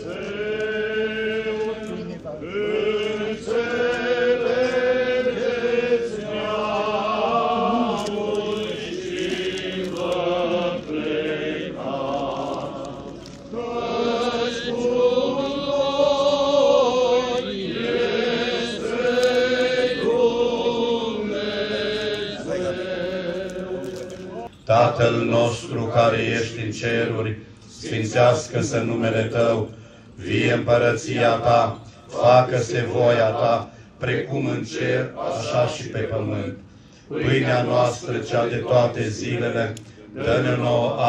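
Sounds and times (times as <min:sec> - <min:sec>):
voices singing liturgical chant: 0:00.0 - 0:41.0.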